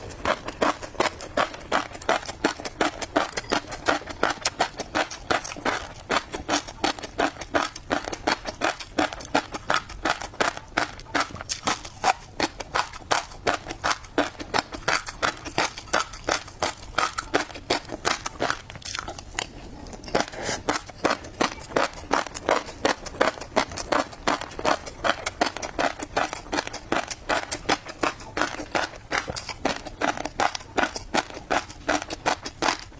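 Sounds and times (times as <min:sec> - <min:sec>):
fish roe popping when chewed: 0:00.0 - 0:32.9.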